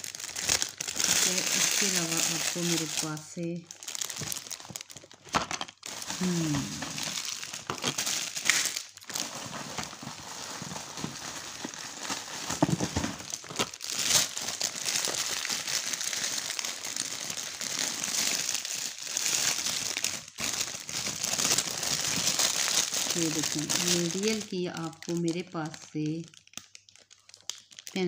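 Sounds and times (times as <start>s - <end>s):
plastic wrapping crinkling: 0.0s - 28.0s.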